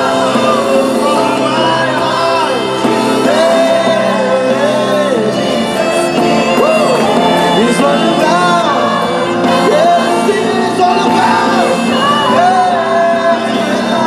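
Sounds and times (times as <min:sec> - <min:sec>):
violins holding sustained chords: 0:00.0 - 0:14.0
voices singing melody: 0:00.0 - 0:14.0.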